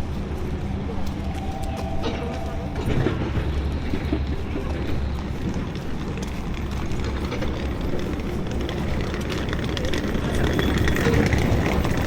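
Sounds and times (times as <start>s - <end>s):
faint clicks and crackles: 0.0s - 12.0s
low rumbling outdoor noise: 0.0s - 12.0s.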